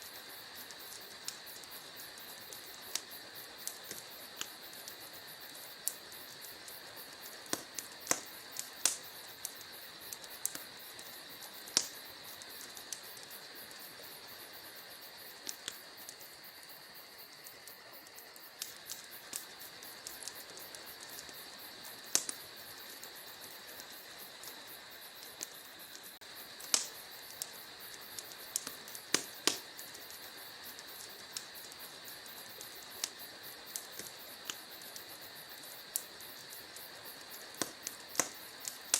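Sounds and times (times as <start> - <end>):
fire hiss: 0.0 - 38.9
wood fire crackling: 0.0 - 38.9.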